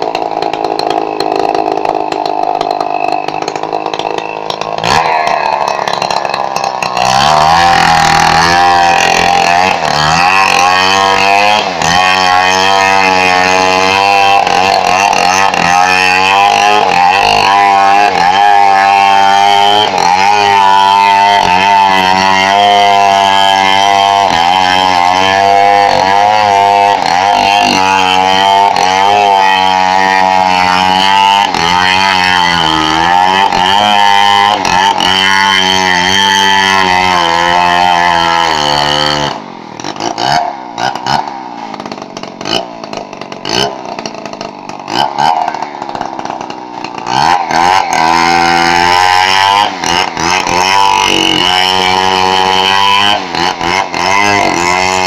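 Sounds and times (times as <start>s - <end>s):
chainsaw sawing timber: 0.0s - 55.0s.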